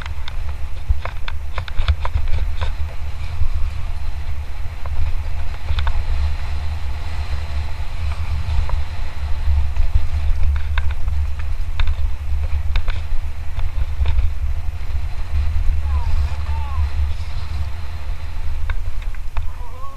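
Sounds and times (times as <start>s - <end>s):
bike clicks and rattles: 0.0s - 19.9s
wind rumble: 0.0s - 19.9s.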